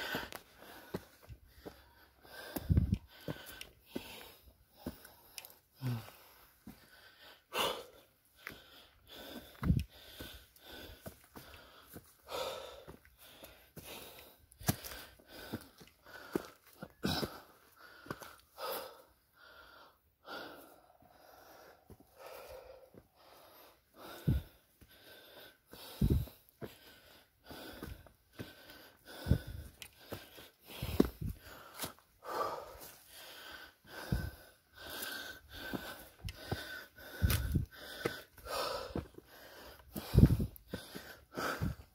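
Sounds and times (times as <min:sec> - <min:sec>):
heavy labored breathing: 0:00.0 - 0:41.9.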